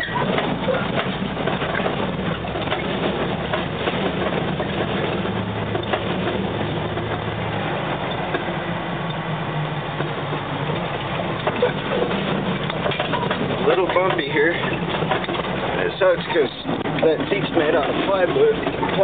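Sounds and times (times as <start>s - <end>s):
truck engine droning: 0.0s - 19.0s
truck rattles and knocks: 0.0s - 19.0s.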